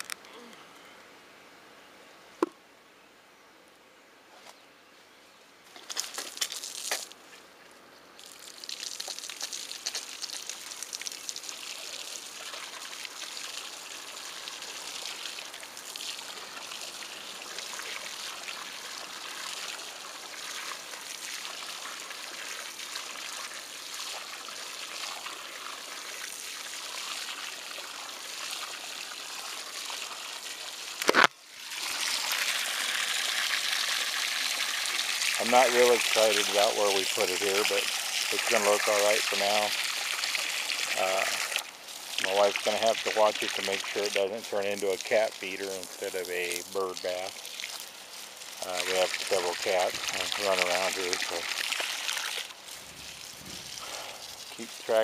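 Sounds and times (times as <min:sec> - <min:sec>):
hose water splashing into bowl: 0:08.2 - 0:55.0.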